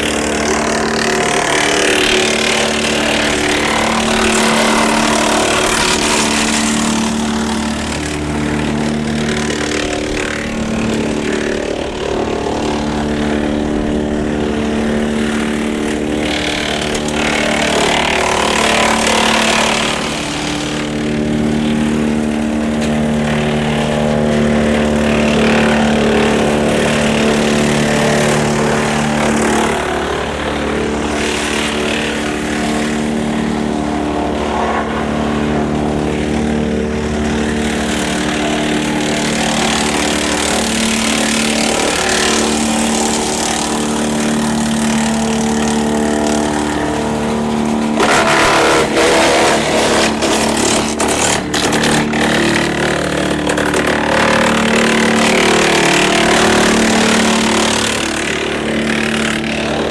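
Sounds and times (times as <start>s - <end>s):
branches cracking in chipper: 0.0s - 59.9s
wood chipper engine drone: 0.0s - 59.9s.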